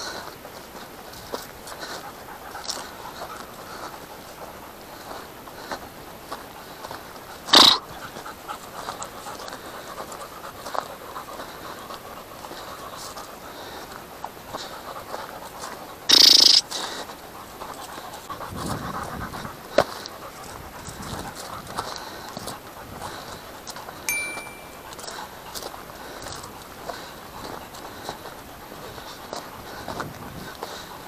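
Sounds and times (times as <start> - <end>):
dog panting: 0.0 - 23.9, 25.3 - 31.0.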